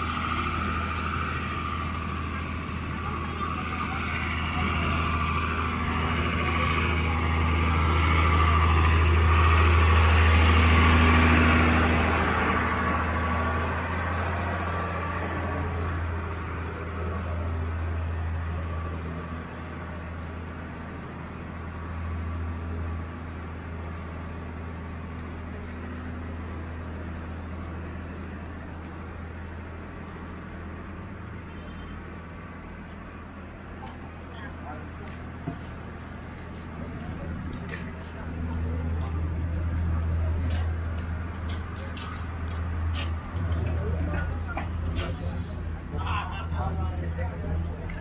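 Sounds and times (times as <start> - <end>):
fire truck engine running: 0.0 - 48.0.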